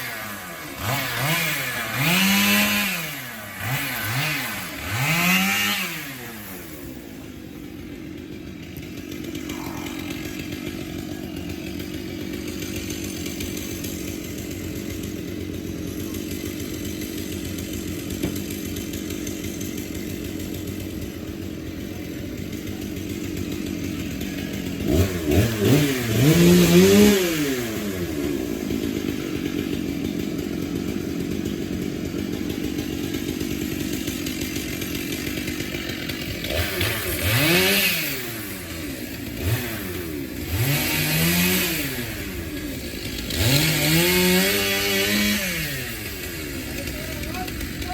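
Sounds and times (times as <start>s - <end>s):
chainsaw engine revving: 0.0s - 47.9s.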